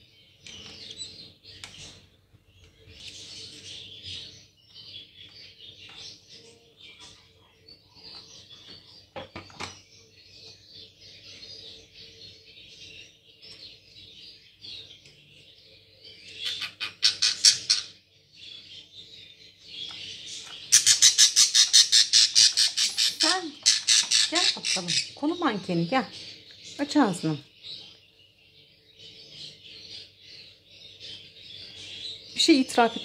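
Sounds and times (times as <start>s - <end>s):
chicks chittering: 0.0s - 33.0s.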